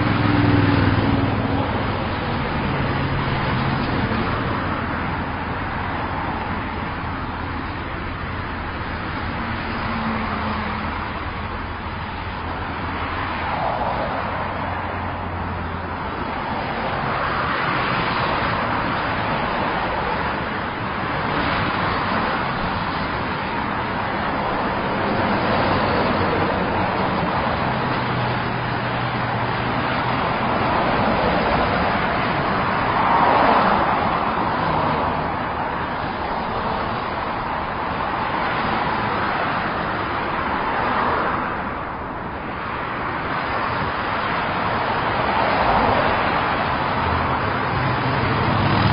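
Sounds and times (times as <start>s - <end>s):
cars passing by: 0.0s - 48.9s
highway traffic noise: 0.0s - 48.9s.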